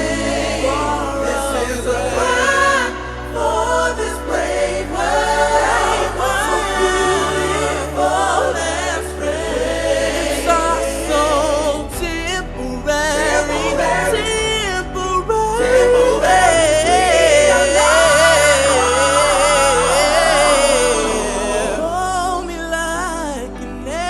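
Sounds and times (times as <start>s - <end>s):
choir singing wordless vocals: 0.0s - 24.0s
sustained low chords: 0.0s - 24.0s.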